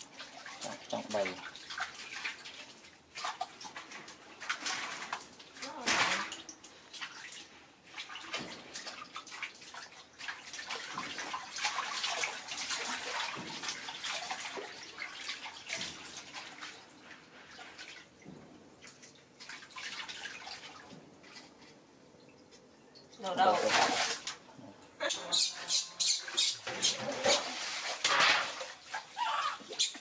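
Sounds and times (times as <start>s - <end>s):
water splashing in basins: 0.0s - 30.0s.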